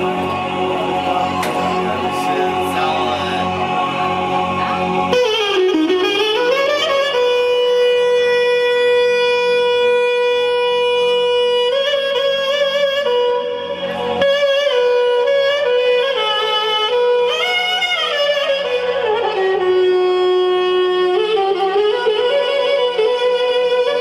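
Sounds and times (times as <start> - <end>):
ornamented instrumental melody: 0.0 - 24.0.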